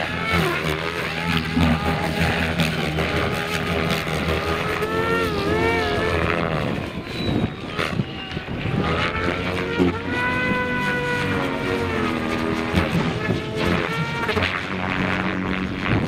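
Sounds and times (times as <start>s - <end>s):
rc helicopter motor and rotor whine: 0.0s - 16.0s.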